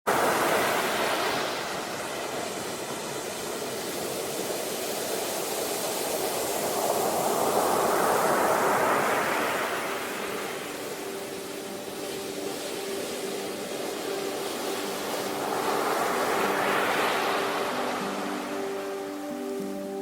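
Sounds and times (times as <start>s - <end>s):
sea waves washing ashore: 0.1s - 20.0s.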